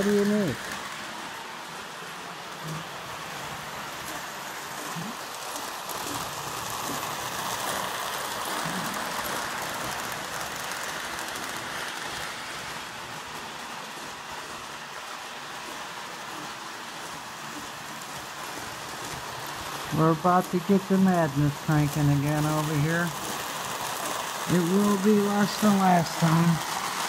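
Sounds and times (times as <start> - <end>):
toy train wheels rumbling on rail: 0.0 - 27.0.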